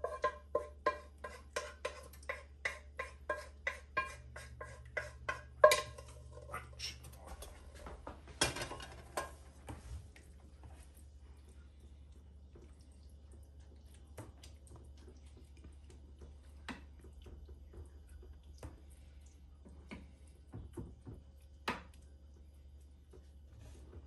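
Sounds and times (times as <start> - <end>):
wet squishes of stirring: 0.0 - 8.2, 8.8 - 24.0
low steady hum: 0.0 - 24.0.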